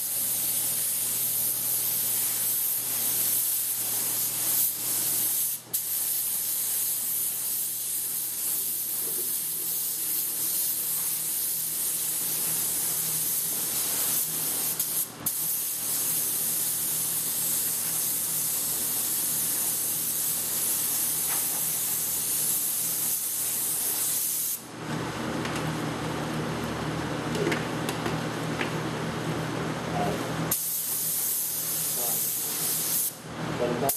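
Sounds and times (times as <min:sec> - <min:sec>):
paint spray gun hissing: 0:00.0 - 0:24.6, 0:30.5 - 0:33.2.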